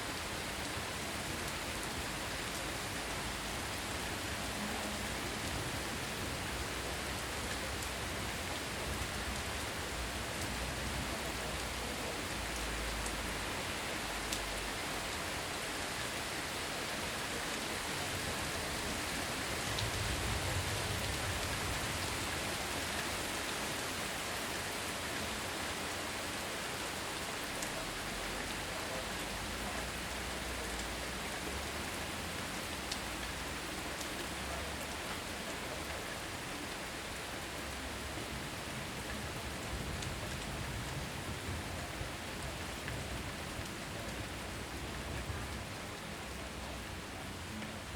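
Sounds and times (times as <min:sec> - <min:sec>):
raindrops ticking on surfaces: 0:00.1 - 0:47.9.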